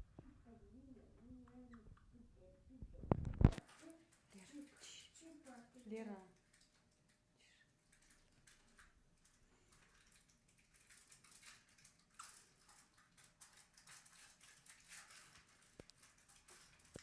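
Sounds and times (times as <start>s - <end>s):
faint small clicks and rustles: 0.0s - 17.0s.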